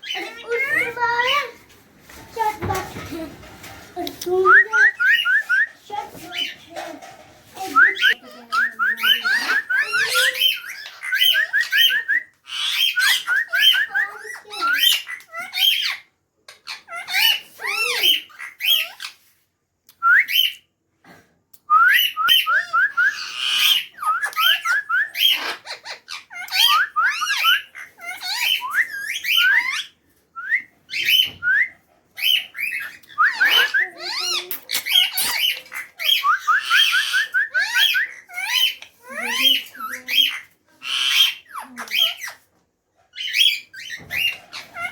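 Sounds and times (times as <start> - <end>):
parrot chirping and squawking: 0.0 - 19.4, 22.0 - 31.4, 32.1 - 44.9.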